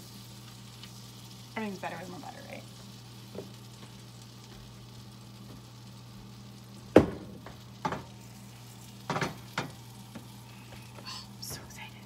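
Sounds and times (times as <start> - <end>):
food frying in butter: 0.0 - 12.0
steady low hum: 0.0 - 12.0.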